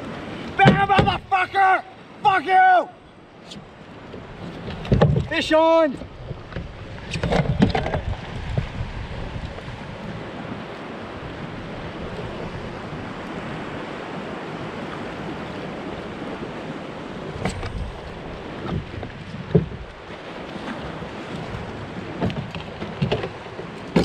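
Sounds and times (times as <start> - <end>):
sea noise: 0.0 - 24.0
wind: 0.0 - 24.0.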